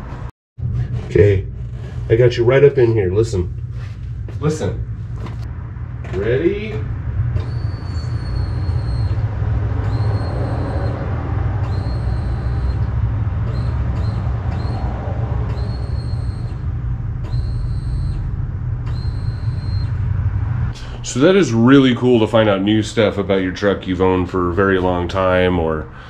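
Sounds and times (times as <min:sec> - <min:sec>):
fuel pump whining: 0:00.0 - 0:26.0
steady low rumble: 0:00.0 - 0:26.0.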